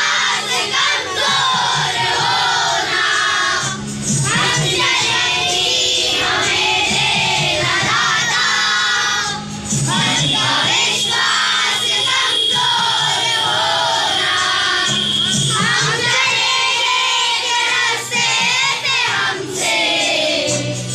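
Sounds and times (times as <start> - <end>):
children singing in unison: 0.0 - 20.9.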